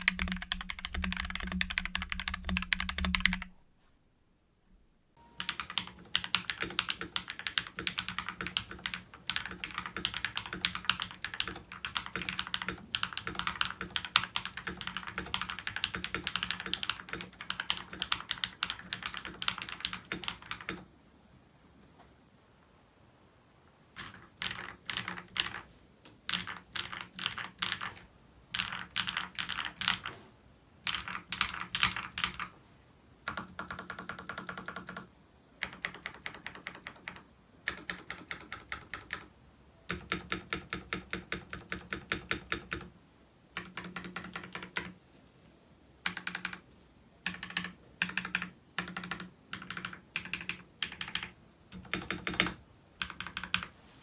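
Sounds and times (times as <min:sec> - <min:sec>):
typing on a mechanical keyboard: 0:00.0 - 0:03.5, 0:05.4 - 0:20.9, 0:24.0 - 0:25.7, 0:26.3 - 0:30.1, 0:30.8 - 0:32.5, 0:33.2 - 0:39.3, 0:39.9 - 0:42.9, 0:43.6 - 0:45.0, 0:46.0 - 0:46.6, 0:47.2 - 0:53.7.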